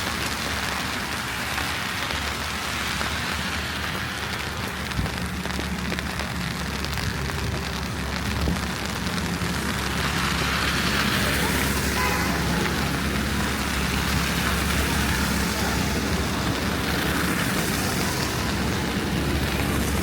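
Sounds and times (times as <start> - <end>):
steady street hiss: 0.0 - 20.0.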